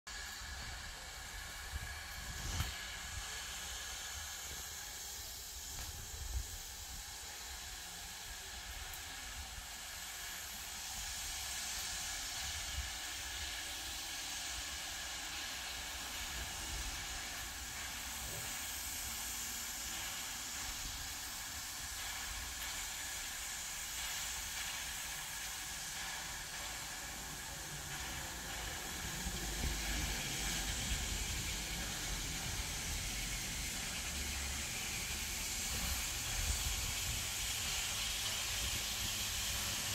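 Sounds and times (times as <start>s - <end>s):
steam locomotive hissing: 0.1s - 39.9s.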